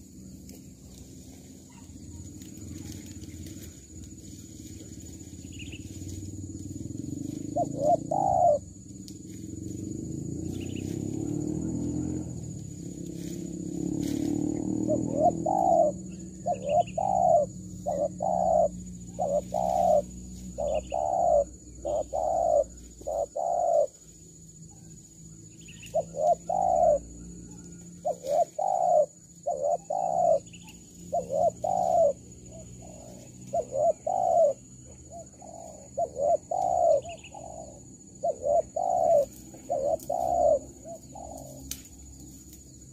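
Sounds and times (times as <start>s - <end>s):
dove cooing: 0.0s - 8.9s, 9.5s - 24.0s, 24.7s - 41.8s.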